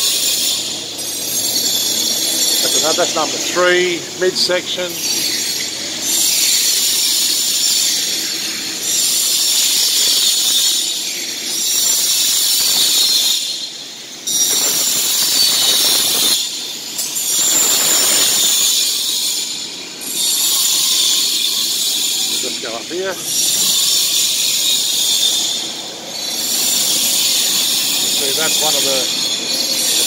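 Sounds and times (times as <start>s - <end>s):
power tool grinding metal: 0.0s - 30.0s.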